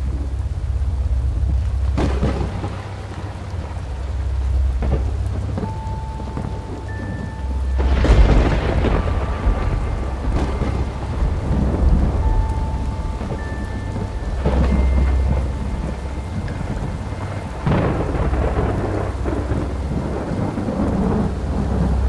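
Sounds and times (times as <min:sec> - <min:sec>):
heavy rain falling: 0:00.0 - 0:22.0
rolling thunder: 0:00.0 - 0:22.0.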